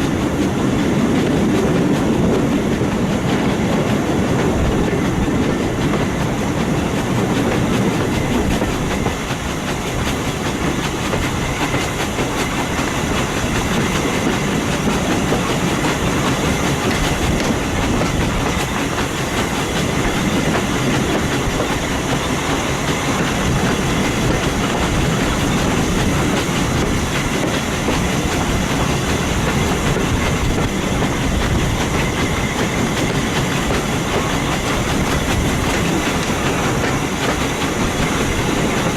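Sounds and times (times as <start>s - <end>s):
train wheels clattering on track: 0.0s - 38.9s.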